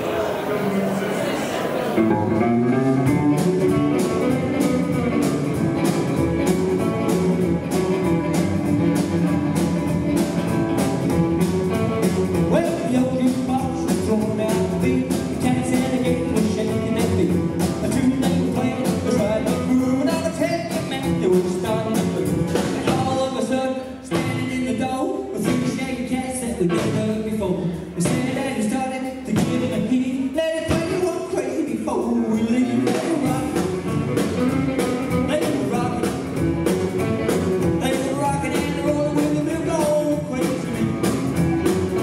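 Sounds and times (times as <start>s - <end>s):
electric guitars: 0.0s - 24.6s, 32.1s - 42.0s
drums: 0.0s - 42.0s
rockabilly band playing: 0.0s - 42.0s
upright double bass: 2.0s - 42.0s.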